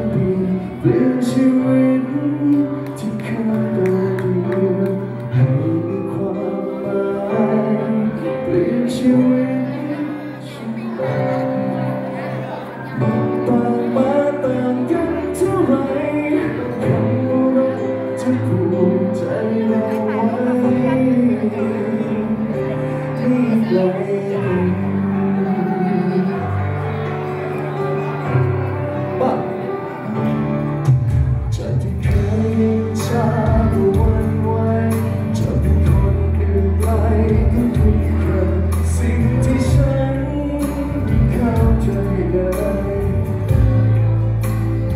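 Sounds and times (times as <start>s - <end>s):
man singing into microphone: 0.0s - 28.2s, 31.1s - 44.9s
amplified backing music: 0.0s - 44.9s.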